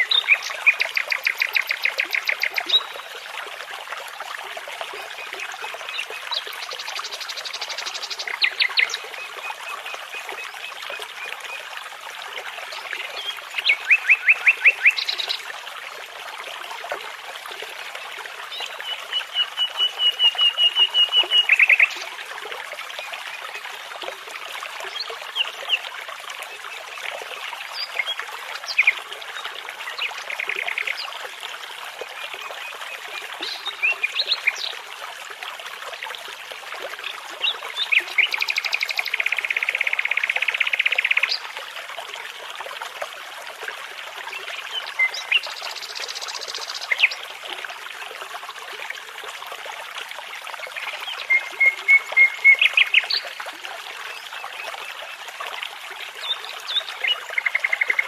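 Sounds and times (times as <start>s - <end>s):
babbling brook trickling: 0.0s - 58.0s.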